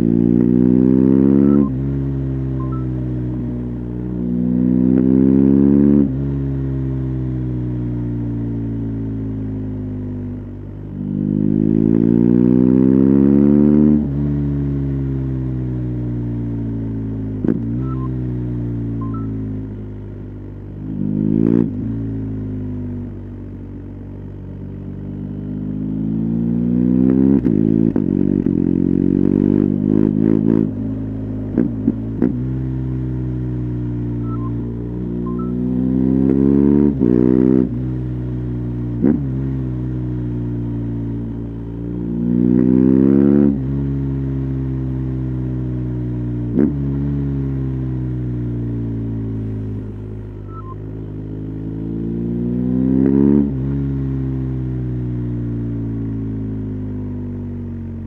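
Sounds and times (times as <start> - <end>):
motorcycle engine revving: 0.0 - 20.0, 20.6 - 58.0.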